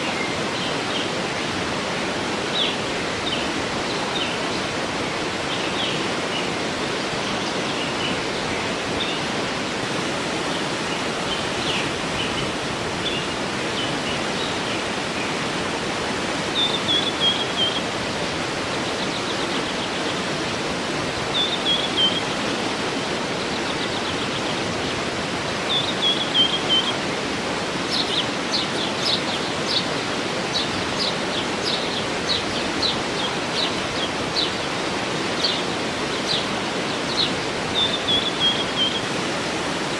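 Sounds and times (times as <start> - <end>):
small birds calling: 0.0 - 39.9
waterfall rushing: 0.0 - 39.9.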